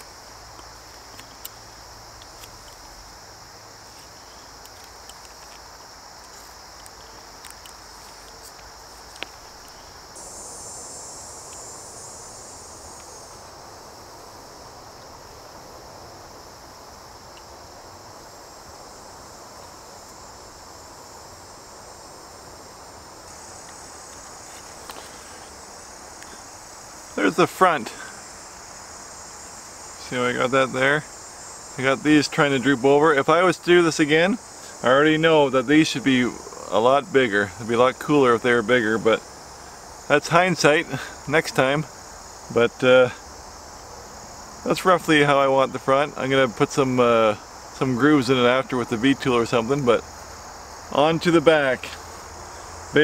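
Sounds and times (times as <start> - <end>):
crickets chirping: 0.0 - 53.0
higher-pitched insect chirping: 0.0 - 53.0.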